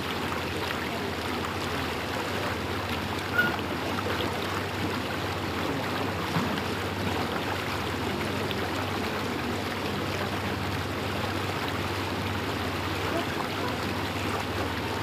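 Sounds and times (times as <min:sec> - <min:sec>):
boat motor droning: 0:00.0 - 0:15.0
water rushing along hull: 0:00.0 - 0:15.0.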